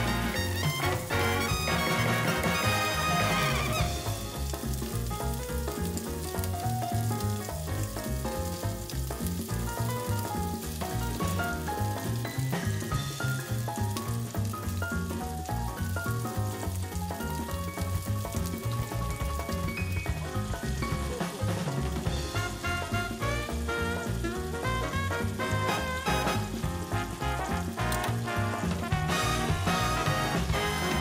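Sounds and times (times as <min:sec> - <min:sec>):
background music with bass: 0:00.0 - 0:31.0
meat sizzling in skillet: 0:00.0 - 0:31.0.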